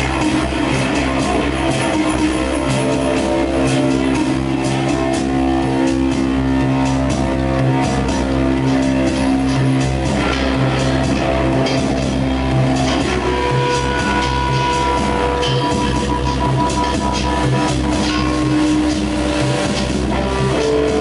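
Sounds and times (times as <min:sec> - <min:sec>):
drums playing steady beat: 0:00.0 - 0:21.0
electric guitar: 0:00.0 - 0:21.0
electronics with held low notes: 0:00.0 - 0:21.0.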